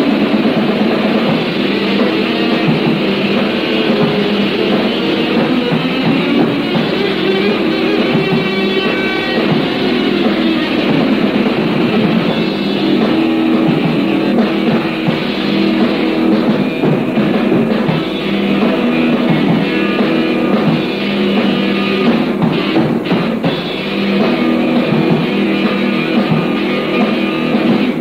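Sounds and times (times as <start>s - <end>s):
distorted electric guitars: 0.0s - 28.0s
drum kit: 0.0s - 28.0s.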